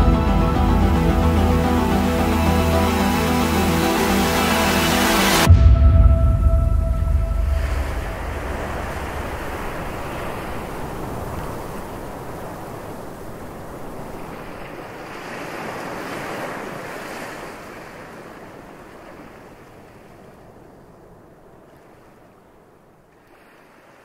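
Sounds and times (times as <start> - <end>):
waves breaking: 0.0 - 24.0.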